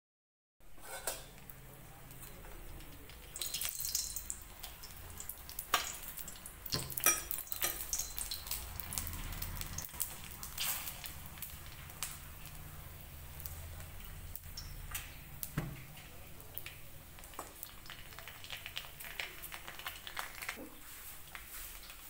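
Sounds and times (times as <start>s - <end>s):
dough frying in hot oil: 0.7s - 22.0s.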